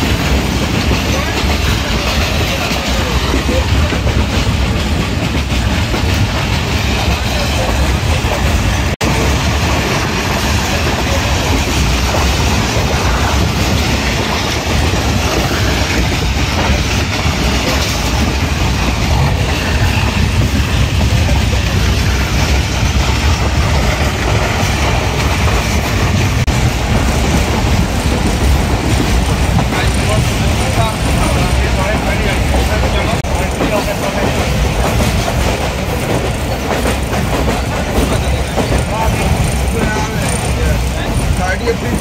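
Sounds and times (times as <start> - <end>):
train wheels on rails: 0.0 - 42.0.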